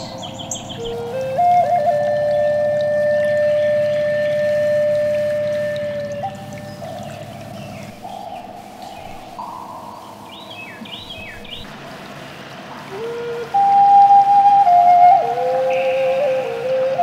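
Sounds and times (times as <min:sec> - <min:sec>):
sustained music notes: 0:00.0 - 0:17.0.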